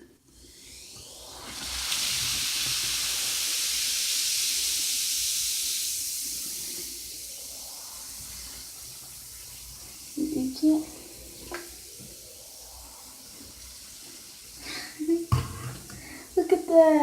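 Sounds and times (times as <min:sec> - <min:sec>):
fizzing hiss of foam: 0:00.3 - 0:17.0.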